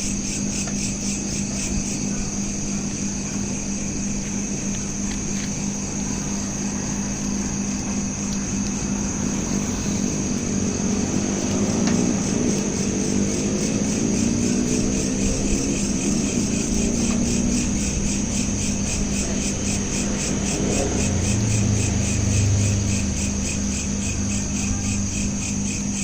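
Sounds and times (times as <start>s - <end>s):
crickets chirping: 0.0s - 26.0s
vehicle engine drone: 0.0s - 26.0s
low hum: 2.2s - 25.7s.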